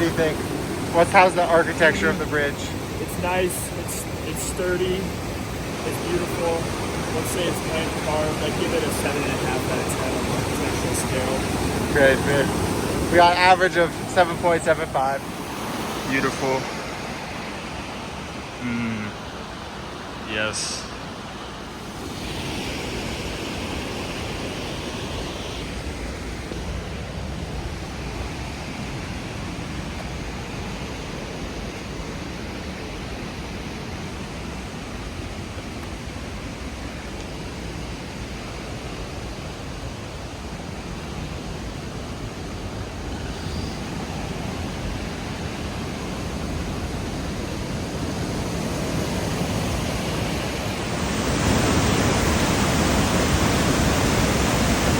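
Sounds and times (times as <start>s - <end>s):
fast-flowing water rushing: 0.0s - 18.6s, 19.3s - 54.9s.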